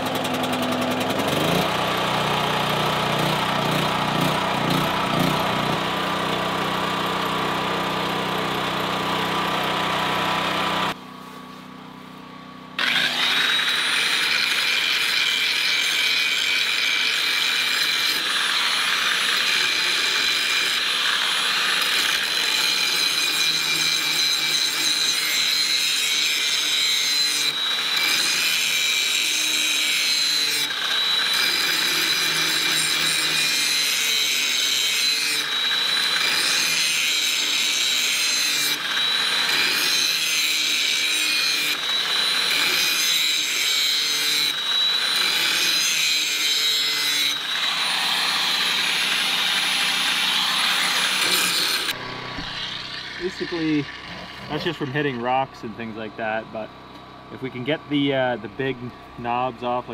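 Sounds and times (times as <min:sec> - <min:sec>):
power grinder sharpening steel: 0:00.0 - 0:11.0, 0:12.8 - 0:56.4.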